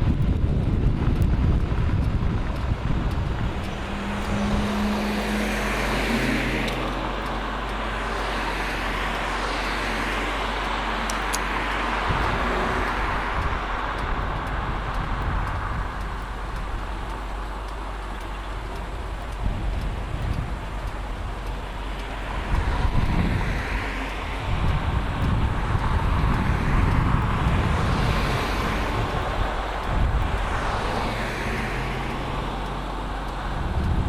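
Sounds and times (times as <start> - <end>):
car engine cruising: 0.0 - 34.0
tyre and road noise: 0.0 - 34.0.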